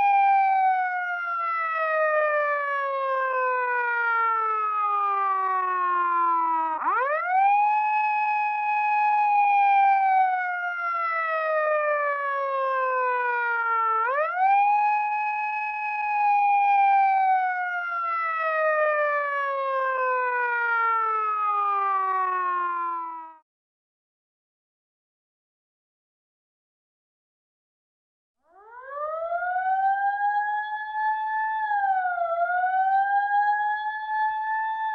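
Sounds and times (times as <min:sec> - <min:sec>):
siren wailing: 0:00.0 - 0:23.4, 0:28.5 - 0:34.9.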